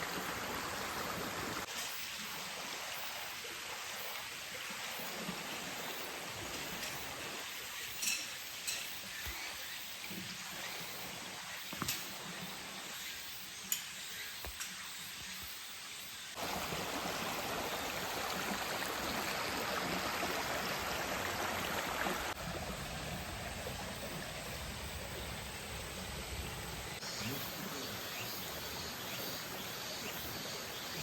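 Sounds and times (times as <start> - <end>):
stream water rushing: 0.0 - 12.8, 16.3 - 31.0.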